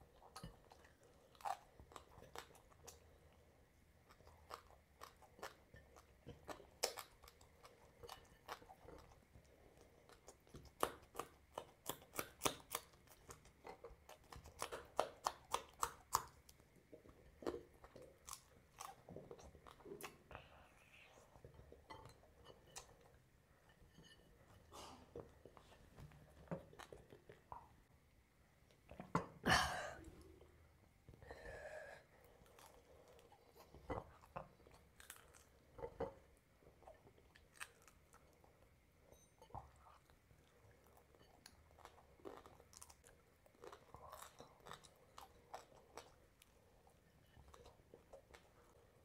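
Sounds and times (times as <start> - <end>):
person chewing and crunching food: 0.0 - 27.9, 28.6 - 49.0.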